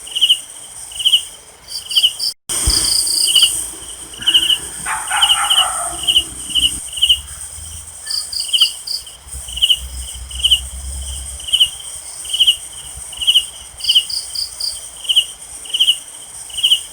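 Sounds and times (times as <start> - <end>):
cricket trilled chirps: 0.0 - 16.9
high insect drone: 2.5 - 16.9.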